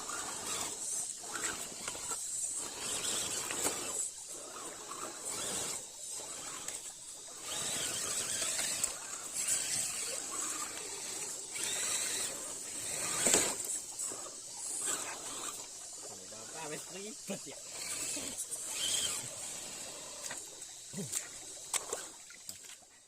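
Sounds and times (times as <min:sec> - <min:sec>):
toy car motor whining: 0:00.0 - 0:22.3.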